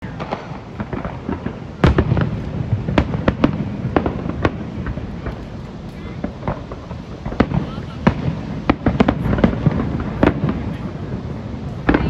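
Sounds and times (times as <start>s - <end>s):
fireworks cracking and banging: 0.0s - 12.0s
low rumble of booms: 0.0s - 12.0s.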